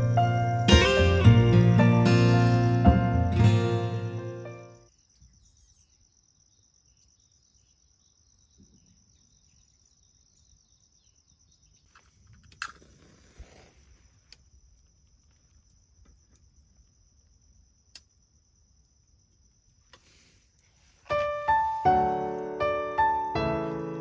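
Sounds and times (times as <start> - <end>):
insects trilling: 0.0 - 2.2, 4.8 - 24.0.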